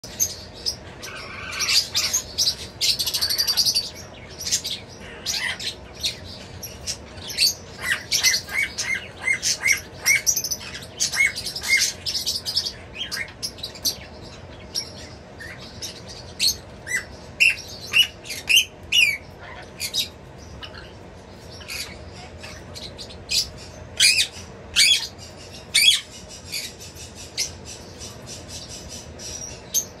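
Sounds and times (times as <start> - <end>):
parrots chirping and squawking: 0.0 - 30.0.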